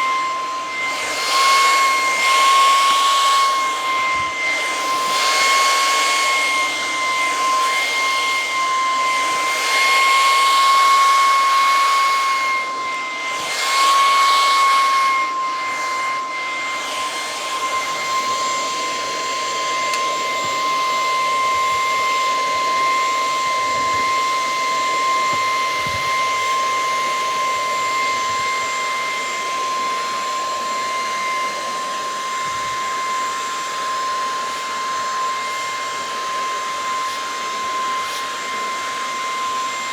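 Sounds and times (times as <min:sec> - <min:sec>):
stick vacuum motor whining: 0:00.0 - 0:39.9.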